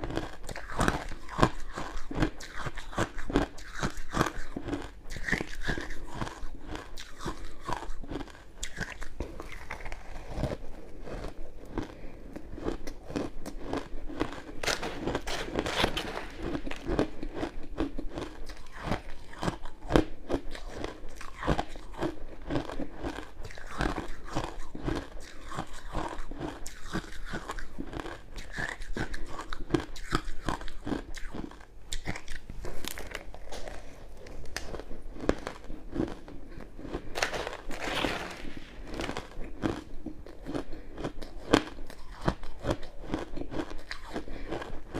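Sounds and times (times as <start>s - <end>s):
crunching ice chewed: 0.0s - 44.9s.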